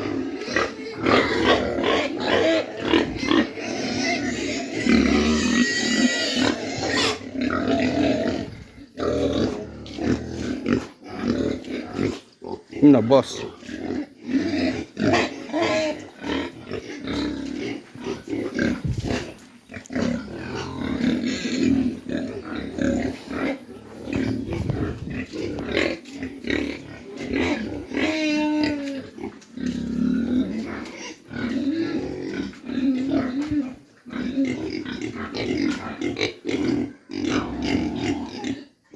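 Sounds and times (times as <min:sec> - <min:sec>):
pigs grunting: 0:00.0 - 0:38.9.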